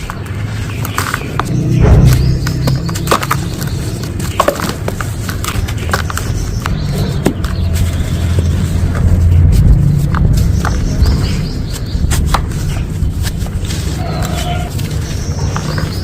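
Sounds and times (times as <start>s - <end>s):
low rumble: 1.4s - 5.7s, 6.4s - 15.9s.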